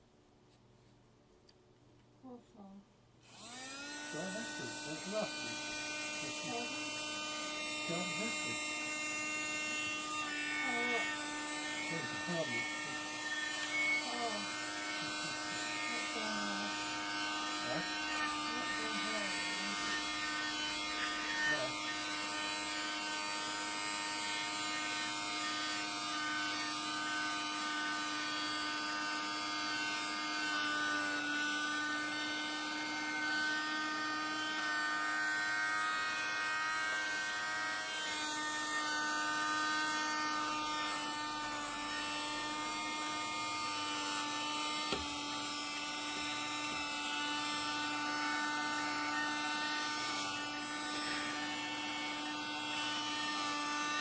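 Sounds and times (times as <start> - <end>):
vacuum cleaner motor whine: 3.2 - 54.0.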